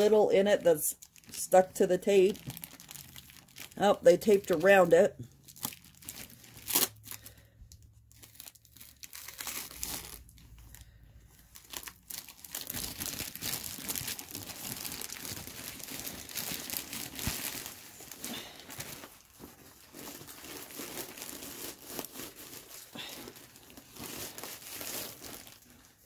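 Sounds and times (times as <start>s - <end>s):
packing tape crackling: 0.0s - 26.0s
plastic bag crinkling: 0.0s - 26.0s.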